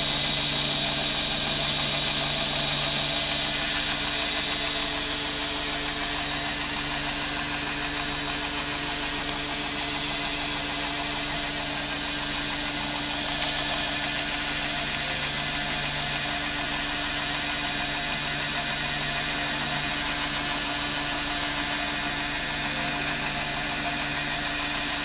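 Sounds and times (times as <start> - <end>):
belt grinder running: 0.0 - 25.0.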